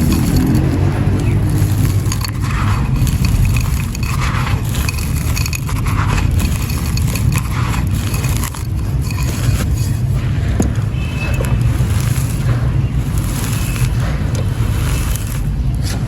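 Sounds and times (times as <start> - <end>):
sand and clay crunching: 0.0 - 16.0.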